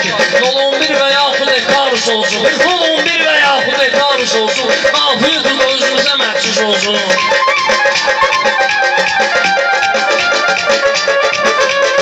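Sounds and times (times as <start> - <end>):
instrumental music with quick beat: 0.0 - 12.0.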